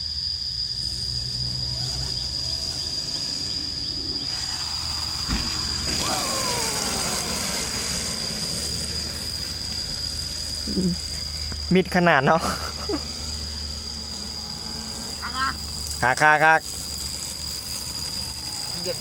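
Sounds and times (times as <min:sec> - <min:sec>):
electric motor whine: 0:00.0 - 0:19.0
tyres and chassis rumble: 0:00.5 - 0:12.4, 0:13.1 - 0:19.0.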